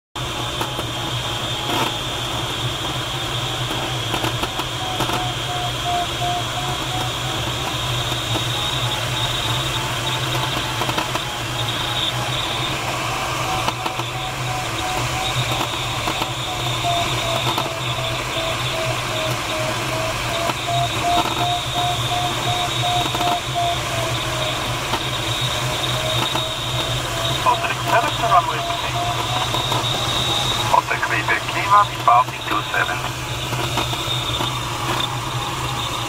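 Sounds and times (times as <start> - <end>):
variometer beeping: 3.7 - 36.0.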